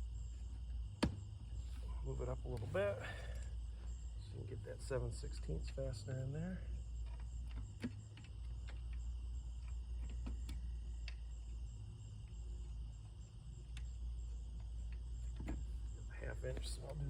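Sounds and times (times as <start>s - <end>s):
insect chirring: 0.0s - 17.0s.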